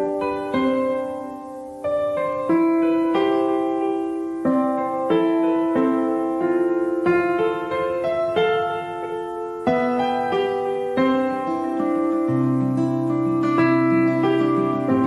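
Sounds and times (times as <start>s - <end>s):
slow piano piece: 0.0s - 15.0s.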